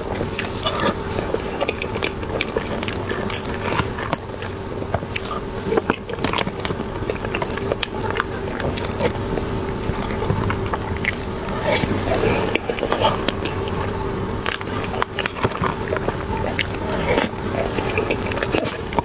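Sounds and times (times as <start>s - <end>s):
biting and chewing soft buns: 0.0s - 19.0s.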